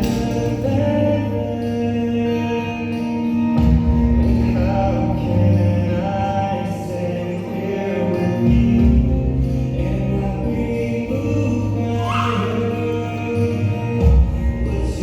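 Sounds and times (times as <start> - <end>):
choral gospel singing: 0.0 - 15.0.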